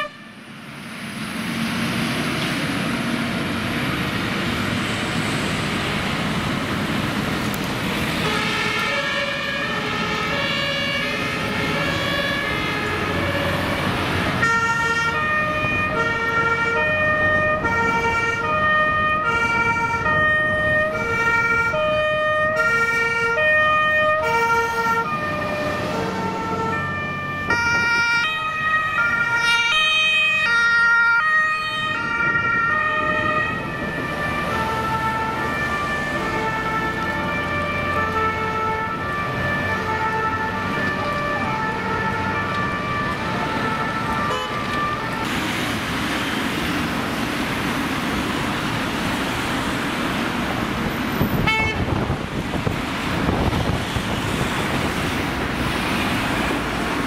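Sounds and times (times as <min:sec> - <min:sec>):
fire engine driving past: 0:00.0 - 0:57.0
two-tone sirens: 0:00.0 - 0:57.0.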